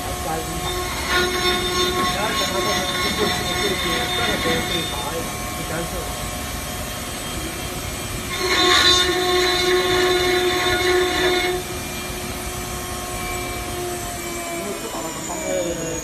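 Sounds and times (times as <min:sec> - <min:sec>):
bit cutting wood: 0:00.0 - 0:06.0, 0:08.2 - 0:16.0
router spindle whine: 0:00.0 - 0:16.0.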